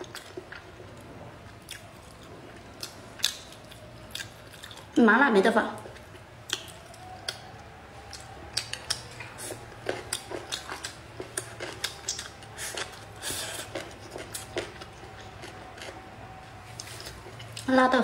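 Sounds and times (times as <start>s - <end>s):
wet chewing clicks and smacks: 0.0s - 5.0s, 5.8s - 17.7s.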